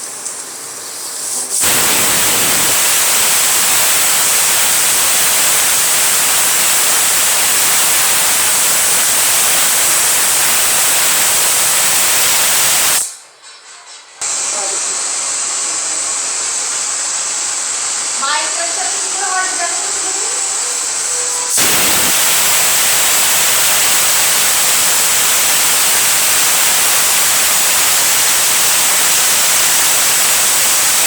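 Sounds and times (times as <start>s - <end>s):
pressure cooker whistle hissing: 0.0s - 31.0s.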